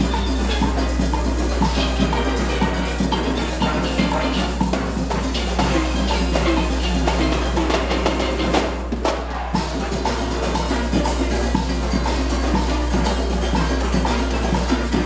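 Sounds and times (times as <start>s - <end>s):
drums beating: 0.0s - 15.0s
steel pans playing calypso: 0.0s - 15.0s.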